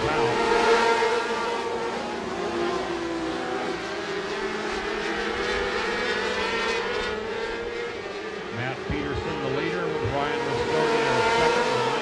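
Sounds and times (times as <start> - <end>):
racing car engines revving high: 0.0 - 12.0.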